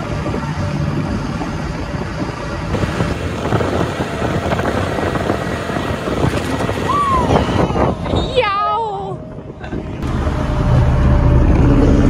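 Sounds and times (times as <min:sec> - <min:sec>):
rumble of engines and traffic: 0:00.0 - 0:12.0
wind buffeting microphone: 0:00.0 - 0:12.0.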